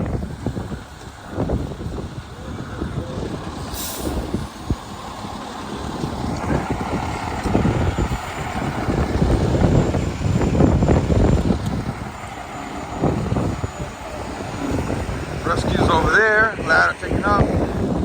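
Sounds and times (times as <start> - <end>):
diesel engine rumbling: 0.0 - 18.0
wind buffeting microphone: 0.0 - 18.0.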